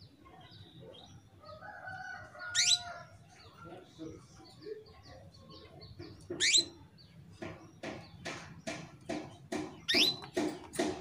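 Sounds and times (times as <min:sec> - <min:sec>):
canary chirping: 0:00.0 - 0:10.9.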